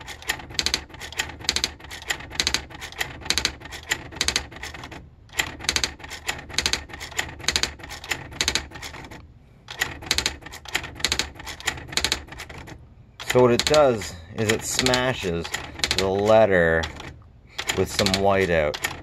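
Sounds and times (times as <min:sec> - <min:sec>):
typewriter mechanical clacks: 0:00.0 - 0:19.0.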